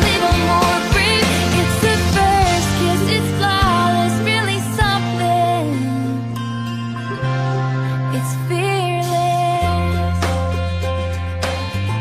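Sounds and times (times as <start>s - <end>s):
pop song: 0.0s - 12.0s.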